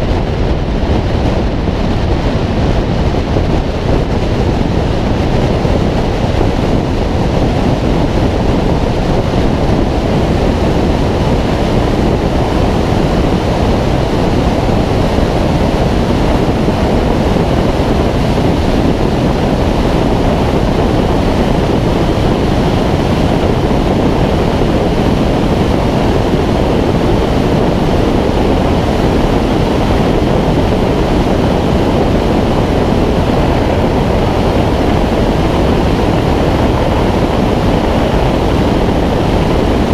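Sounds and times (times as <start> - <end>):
loud wind rush: 0.0 - 39.9.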